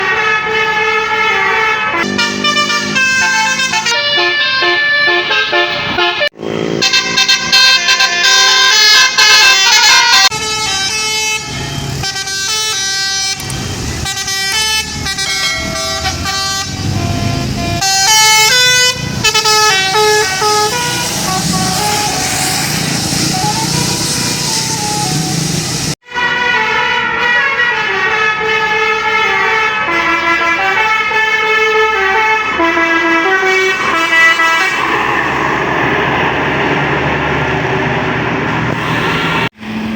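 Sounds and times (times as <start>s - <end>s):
multi-tone bus horn melodies: 0.0s - 35.1s
bus engine rumble: 0.0s - 39.9s.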